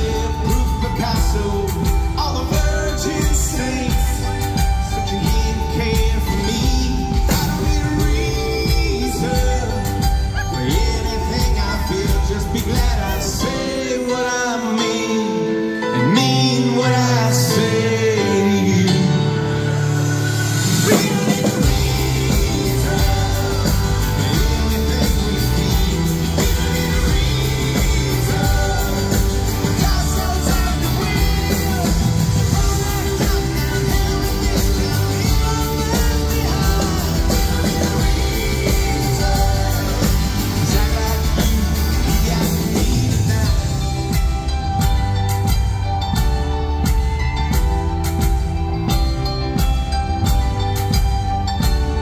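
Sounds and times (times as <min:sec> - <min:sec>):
person singing: 0:00.0 - 0:19.7, 0:20.8 - 0:48.3
live pop-rock band playing: 0:00.0 - 0:52.0.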